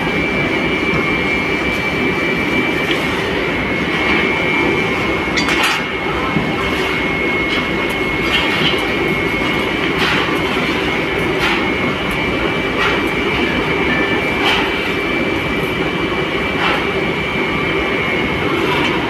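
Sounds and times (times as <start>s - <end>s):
high machine whine: 0.0s - 19.0s
machinery rumble: 0.0s - 19.0s.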